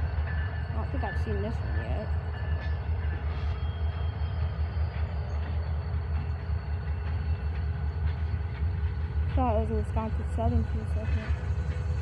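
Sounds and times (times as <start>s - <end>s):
freight train rumbling by: 0.0s - 12.0s.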